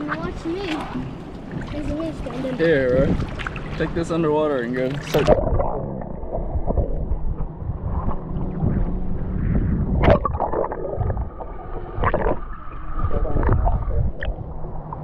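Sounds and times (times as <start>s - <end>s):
steady low rumble: 0.0s - 15.0s
water splashing around wading people: 0.0s - 15.0s.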